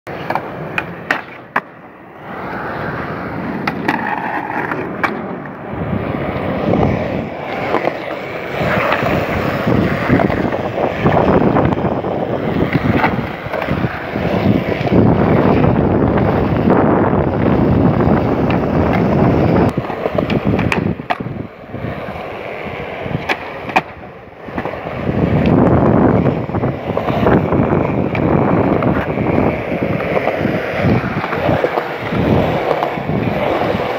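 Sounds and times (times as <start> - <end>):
skateboard clacks: 0.1 - 33.9
skateboard wheels rolling on concrete: 0.1 - 33.9.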